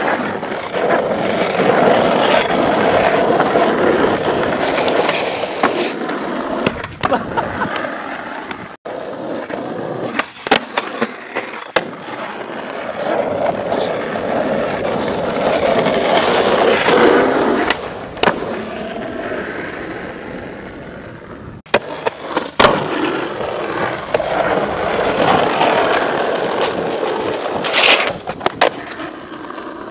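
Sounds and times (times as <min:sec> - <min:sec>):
skateboard clacking on ground: 0:00.0 - 0:29.9
skateboard wheels rolling on asphalt: 0:00.0 - 0:29.9.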